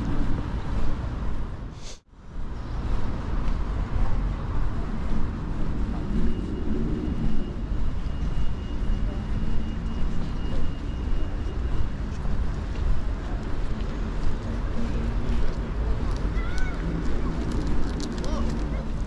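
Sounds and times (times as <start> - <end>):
distant traffic rumbling: 0.0 - 19.0.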